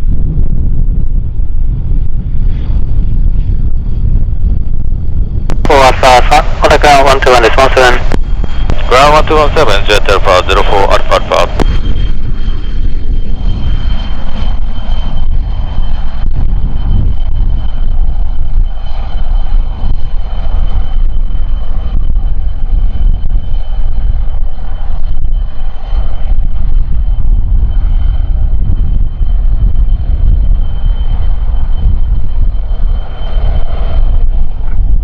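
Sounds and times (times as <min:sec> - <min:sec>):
jet engines whining: 0:00.0 - 0:35.0
wind buffeting microphone: 0:00.0 - 0:35.0.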